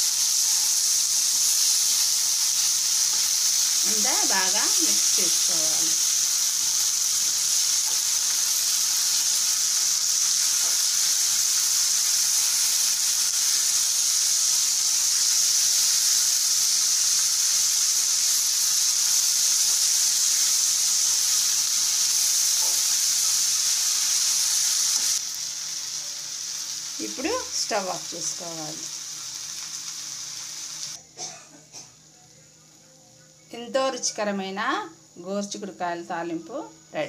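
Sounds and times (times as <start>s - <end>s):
beans sizzling in hot oil: 0.0s - 31.0s.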